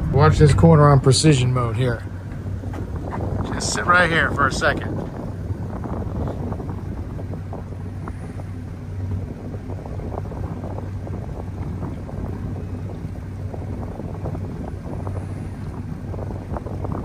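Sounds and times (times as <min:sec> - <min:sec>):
boat engines idling: 0:00.0 - 0:17.0
wind buffeting microphone: 0:00.0 - 0:17.0.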